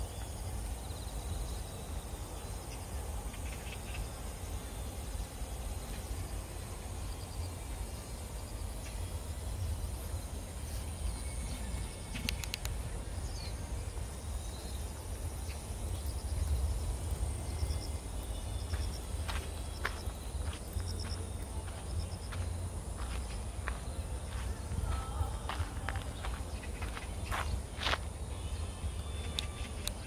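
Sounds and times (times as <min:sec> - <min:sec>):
high insect drone: 0:00.0 - 0:30.0.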